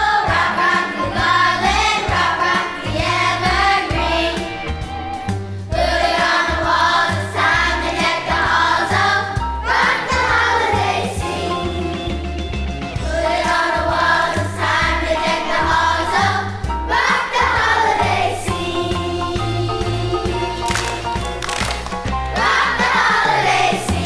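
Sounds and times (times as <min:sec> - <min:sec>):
choir singing: 0:00.0 - 0:04.6, 0:05.7 - 0:12.2, 0:13.0 - 0:20.6, 0:22.3 - 0:24.0
instrumental accompaniment: 0:00.0 - 0:24.0.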